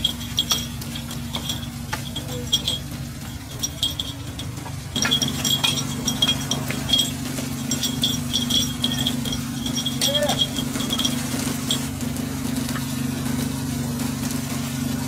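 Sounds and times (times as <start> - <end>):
metal picks clinking on iron pan: 0.0 - 13.8
low hum: 0.0 - 15.0.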